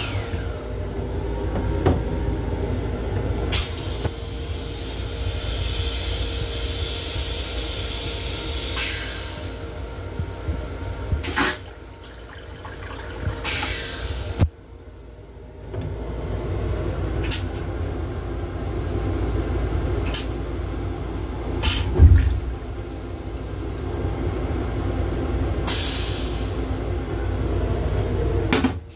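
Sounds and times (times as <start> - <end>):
railcar low mechanical rumble: 0.0 - 28.9.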